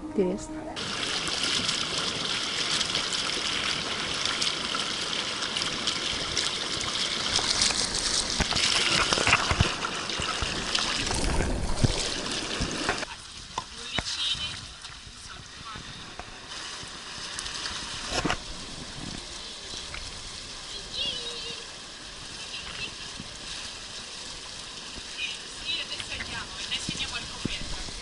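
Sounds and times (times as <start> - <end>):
rushing splashing water: 0.8 - 28.0.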